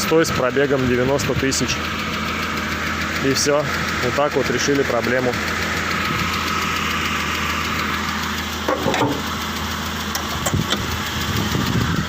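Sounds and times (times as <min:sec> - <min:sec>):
petrol engine idling: 0:00.0 - 0:12.0.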